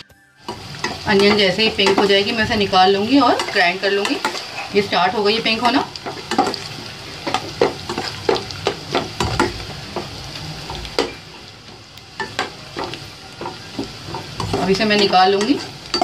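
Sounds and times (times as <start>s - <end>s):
onions sizzling in hot oil: 0.4s - 16.0s.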